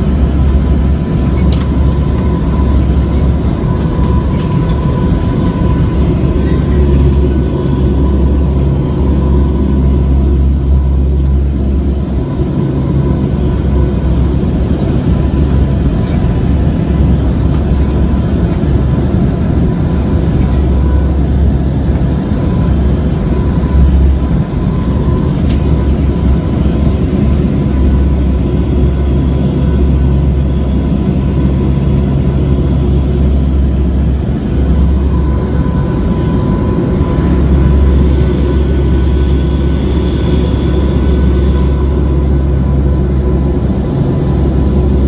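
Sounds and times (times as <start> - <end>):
aircraft engines droning: 0.0 - 45.0.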